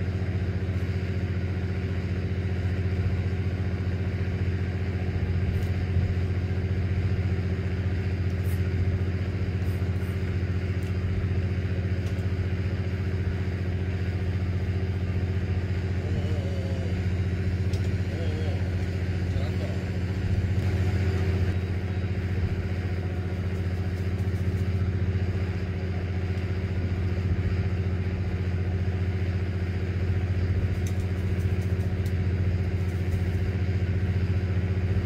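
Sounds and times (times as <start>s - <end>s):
boat diesel engine running: 0.0s - 35.0s.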